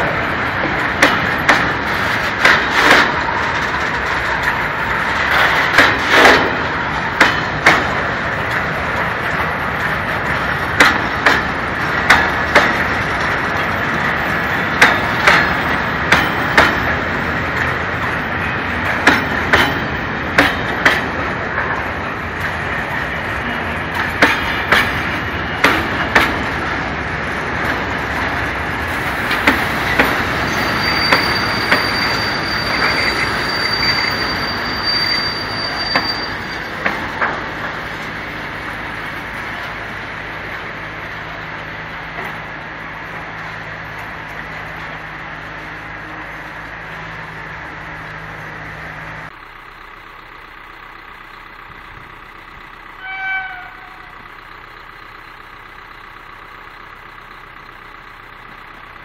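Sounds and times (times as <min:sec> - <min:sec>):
train wheels rumbling on rail: 0:00.0 - 0:59.0
wheels clacking over rail joints: 0:00.0 - 0:59.0.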